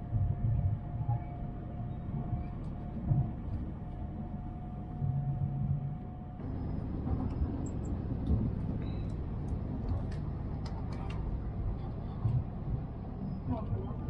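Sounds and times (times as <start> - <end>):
train cabin rumble: 0.1 - 14.0.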